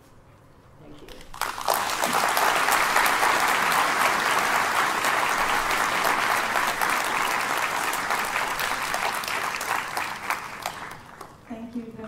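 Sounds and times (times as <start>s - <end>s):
audience applauding: 1.3s - 11.4s.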